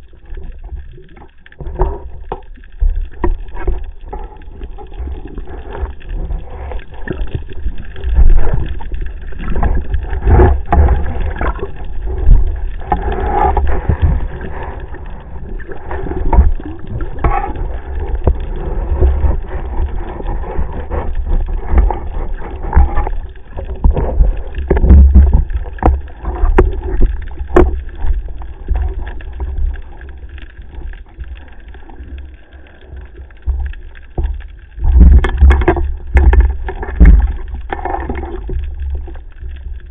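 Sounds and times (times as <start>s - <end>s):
water sloshing and rushing: 0.0s - 39.9s.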